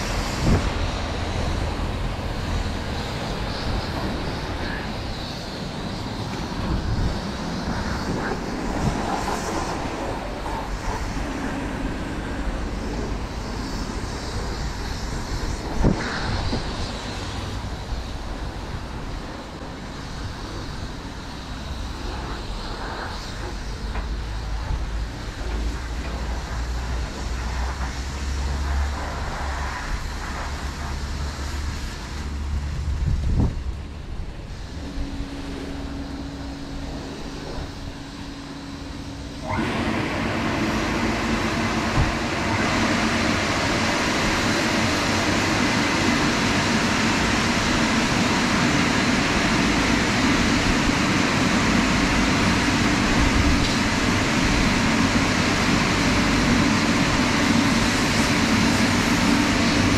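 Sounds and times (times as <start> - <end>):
dryer blowers rushing air: 0.0 - 59.9
steady motor hum: 0.0 - 59.9.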